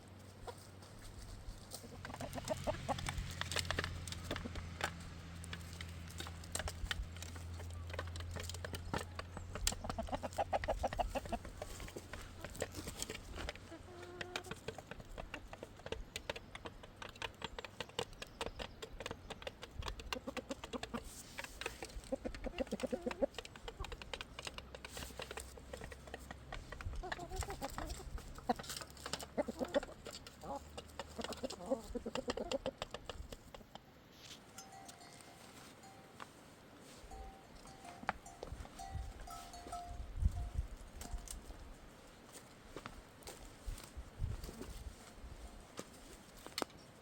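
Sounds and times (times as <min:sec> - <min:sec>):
chickens clucking: 0:00.0 - 0:46.7.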